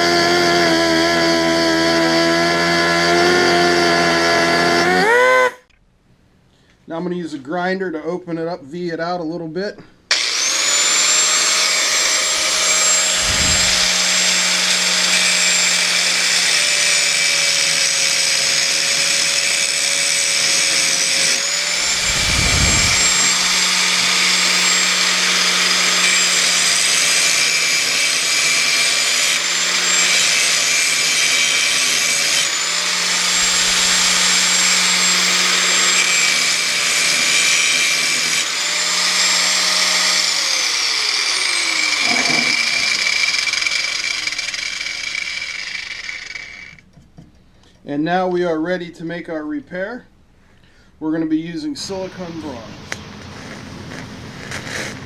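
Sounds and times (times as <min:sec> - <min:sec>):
grinder grinding metal: 0:00.0 - 0:05.2, 0:10.1 - 0:46.8, 0:51.9 - 0:55.0.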